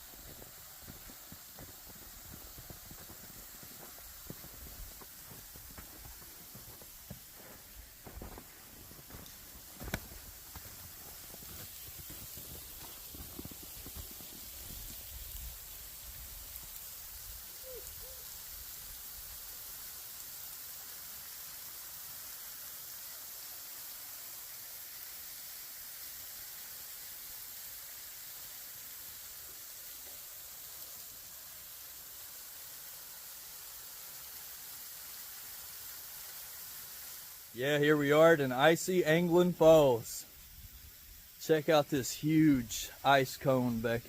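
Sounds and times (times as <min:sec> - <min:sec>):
faint hiss: 0:00.0 - 0:44.0.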